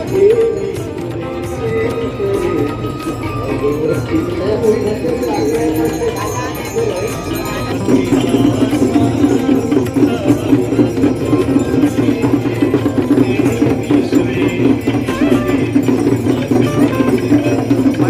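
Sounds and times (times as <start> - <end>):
devotional music: 0.0 - 18.0
rhythmic percussion strikes: 0.0 - 18.0.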